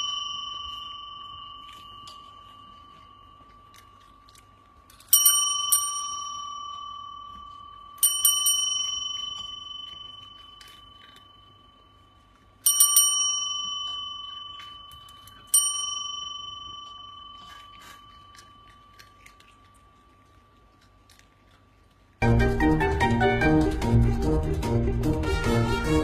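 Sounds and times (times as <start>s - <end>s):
small metal bell ringing: 0.0s - 21.2s.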